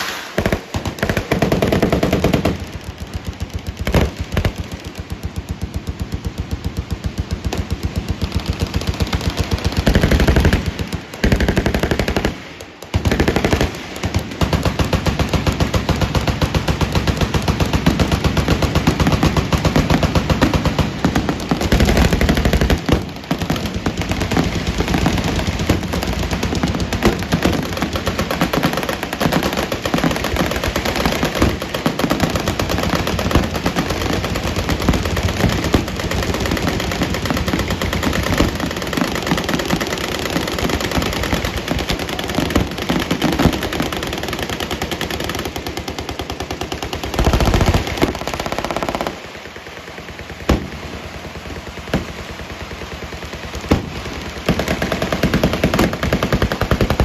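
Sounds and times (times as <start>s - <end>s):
machine guns firing: 0.0s - 57.0s.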